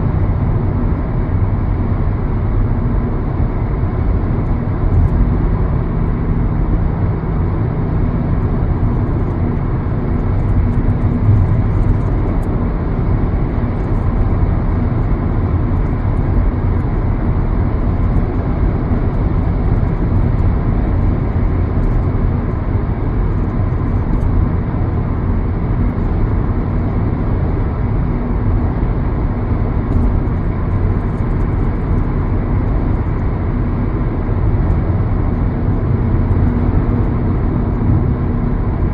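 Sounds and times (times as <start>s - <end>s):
vehicle rumble: 0.0s - 38.9s.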